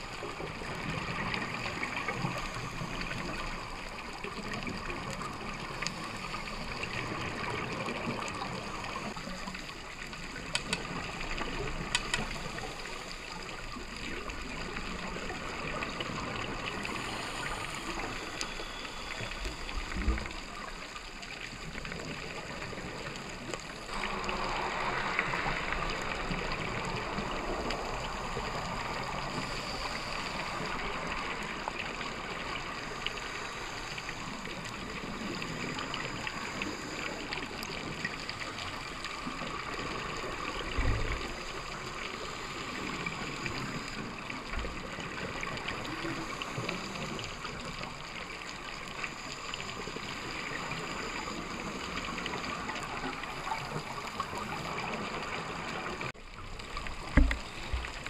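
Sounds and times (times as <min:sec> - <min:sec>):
underwater watery hiss: 0:00.0 - 0:58.0.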